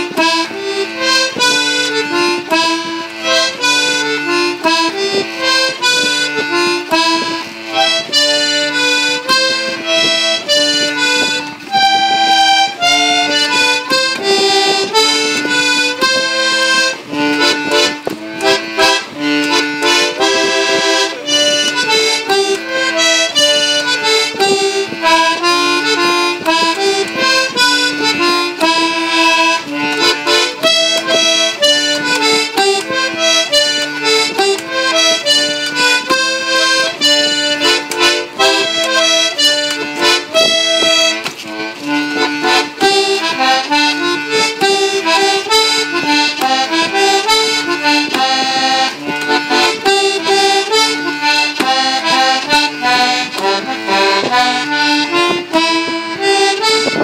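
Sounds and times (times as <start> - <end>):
accordion playing a tune: 0.0 - 57.0.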